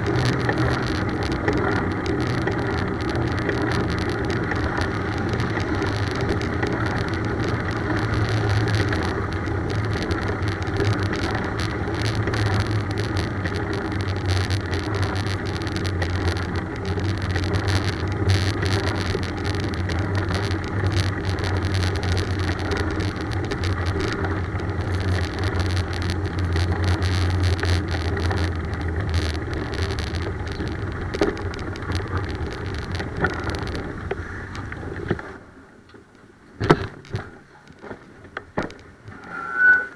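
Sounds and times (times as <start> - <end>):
steady low rumble: 0.0 - 37.8
bicycle road and wind noise: 0.0 - 39.9.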